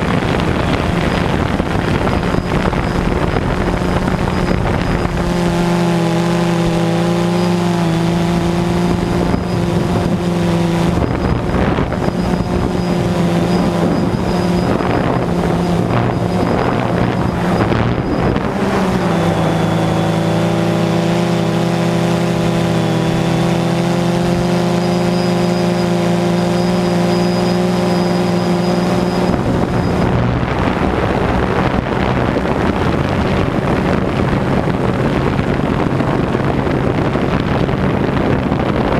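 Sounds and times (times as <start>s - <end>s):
drone motors whining: 0.0s - 36.4s
wind buffeting microphone: 0.0s - 38.9s.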